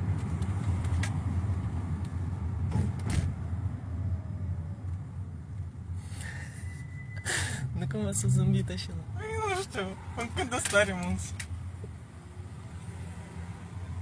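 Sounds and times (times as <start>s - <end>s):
engine and road rumble: 0.0s - 14.0s.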